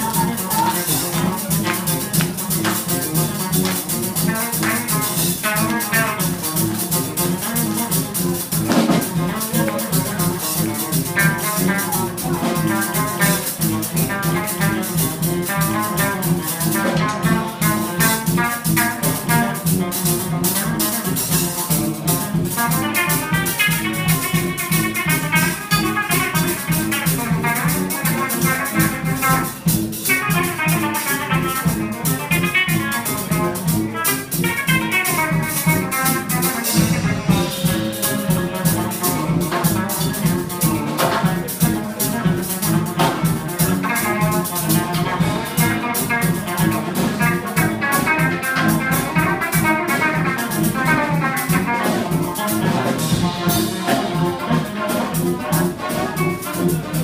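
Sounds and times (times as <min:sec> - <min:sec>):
drum kit steady beat: 0:00.0 - 0:57.0
horns playing melody: 0:00.0 - 0:57.0.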